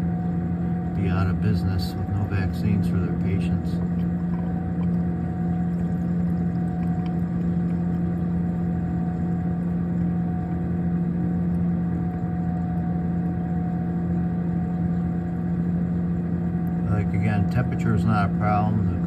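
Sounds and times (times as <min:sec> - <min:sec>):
refrigerator humming: 0:00.0 - 0:19.0.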